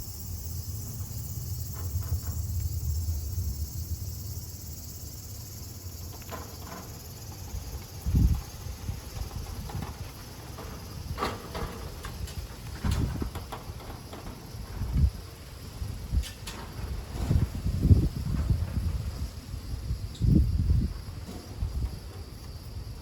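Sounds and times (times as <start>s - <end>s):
insects chorus: 0.0s - 23.0s
wind buffeting microphone: 0.0s - 23.0s.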